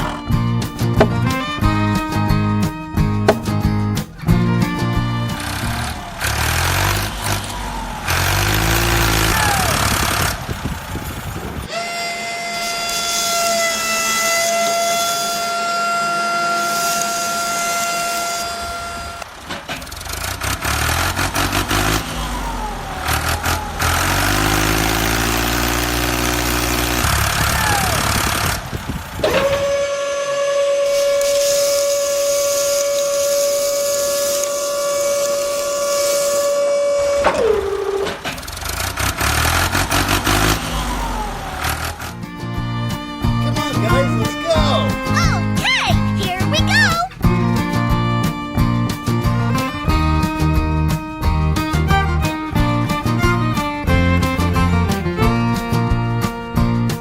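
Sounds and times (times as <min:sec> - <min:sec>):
truck engine running: 0:00.0 - 0:57.0
truck horn blasts: 0:00.0 - 0:57.0.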